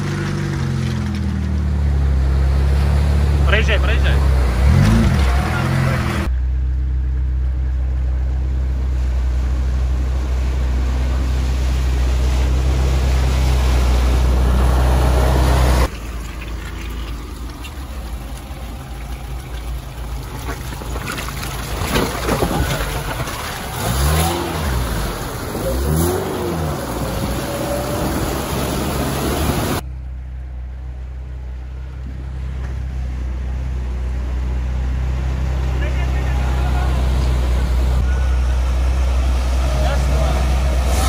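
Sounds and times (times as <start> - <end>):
car engine drone: 0.0 - 41.0
road noise: 0.0 - 41.0.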